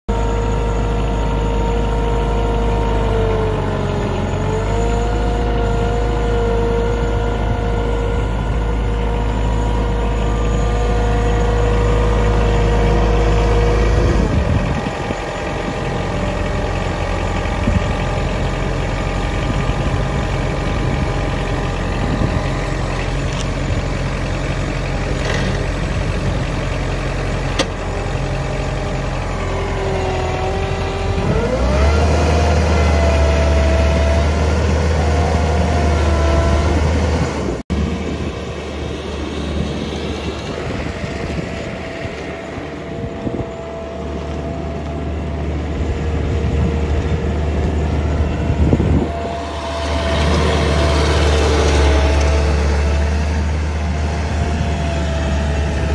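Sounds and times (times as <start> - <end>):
engine whine: 0.0 - 55.9
mower diesel engine running: 0.1 - 55.9.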